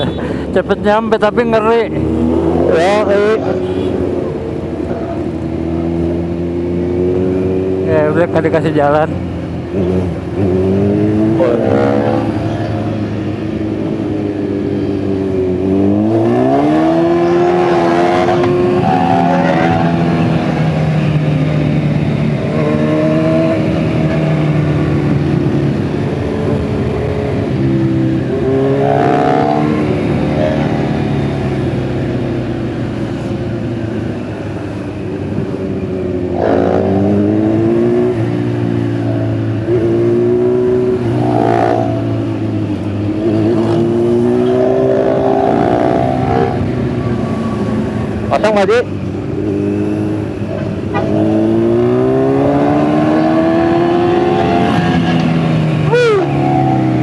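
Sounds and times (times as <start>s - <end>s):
motorcycle engine revving: 0.8s - 34.7s, 35.5s - 57.0s.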